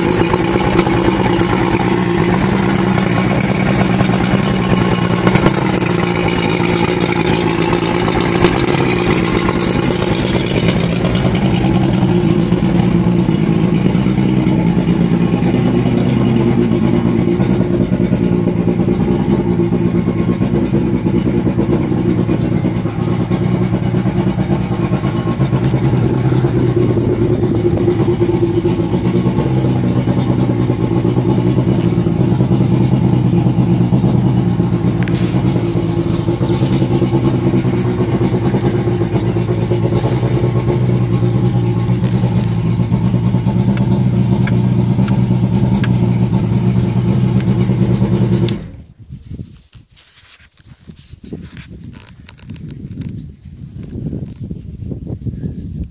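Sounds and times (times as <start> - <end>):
outboard engine running: 0.0 - 49.0.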